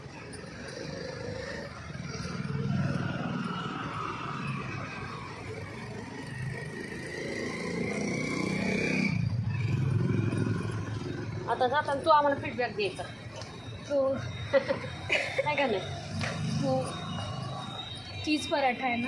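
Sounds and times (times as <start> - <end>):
vehicle engines running: 0.0 - 19.0.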